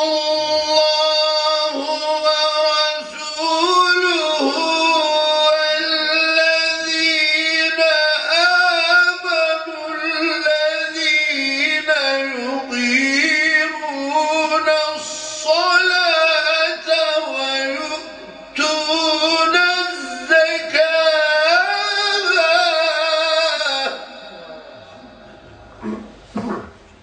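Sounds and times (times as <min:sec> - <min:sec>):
man reciting in melodic chant: 0:00.0 - 0:26.8.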